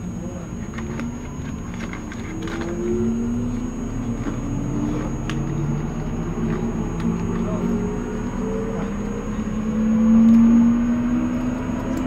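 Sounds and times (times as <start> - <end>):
steady train rumble: 0.0 - 12.0
train traction motor whine: 0.0 - 12.0.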